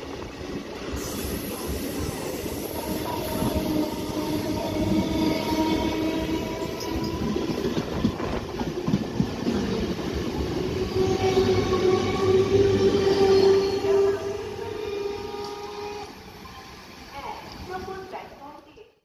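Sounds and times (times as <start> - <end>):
train wheels rumbling over rails: 0.0 - 16.3
steady train whine: 0.0 - 18.4.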